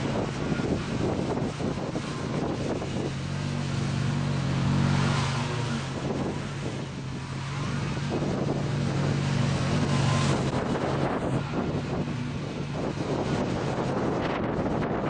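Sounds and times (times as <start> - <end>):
mower hiss cutting grass: 0.0 - 14.8
lawn tractor engine droning: 0.0 - 15.0.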